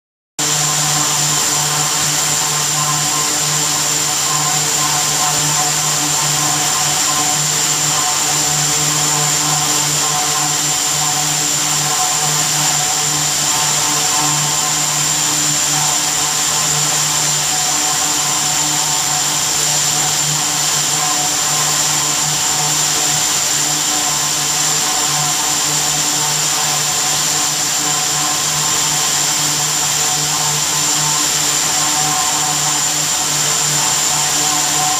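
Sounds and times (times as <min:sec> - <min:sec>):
machine whine and hum: 0:00.4 - 0:34.9.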